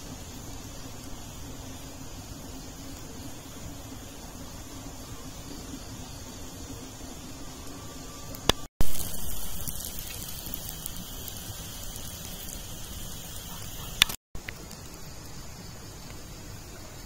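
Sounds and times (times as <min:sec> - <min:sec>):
meat sizzling over wood fire: 0:00.0 - 0:05.9, 0:06.9 - 0:16.6
quiet even hiss: 0:00.0 - 0:17.0.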